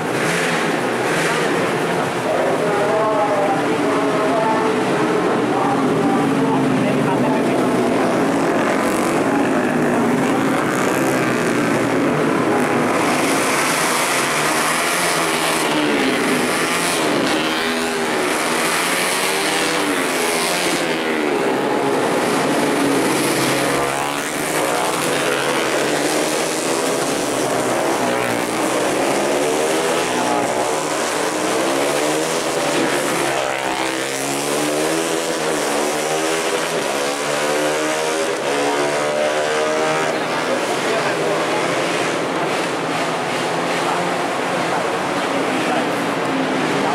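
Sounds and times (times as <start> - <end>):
racing motorcycles passing: 0.0 - 46.9.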